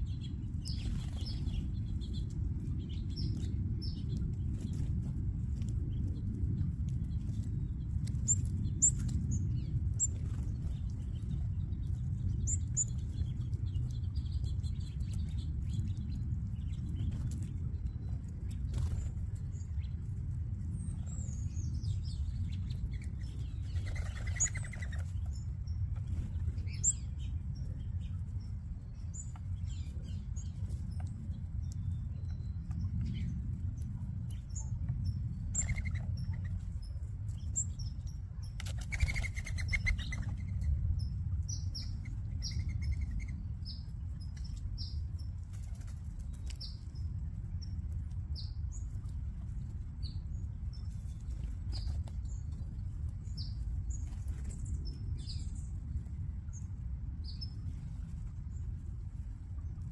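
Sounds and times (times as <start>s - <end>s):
small birds chirping: 0.0s - 59.9s
steady low rumble: 0.0s - 59.9s.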